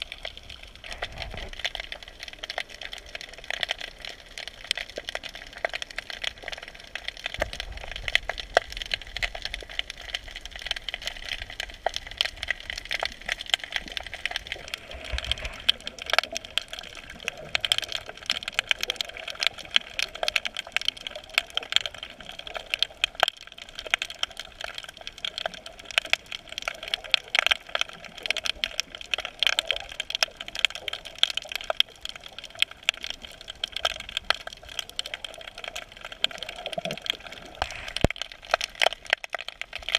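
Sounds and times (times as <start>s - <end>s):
low rumble of water movement: 0.0s - 39.9s
underwater crackling of clicks: 0.1s - 39.9s.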